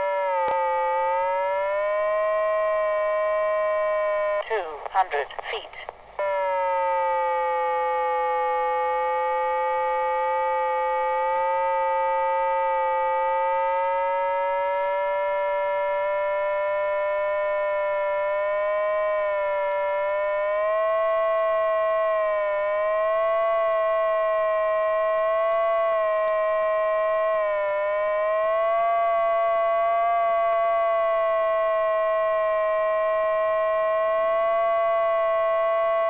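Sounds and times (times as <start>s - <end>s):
electronic altimeter tone: 0.0s - 36.0s.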